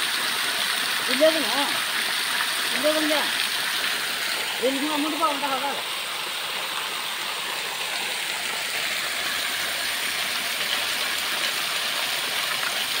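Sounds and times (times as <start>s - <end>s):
water pouring from a pipe: 0.0s - 13.0s.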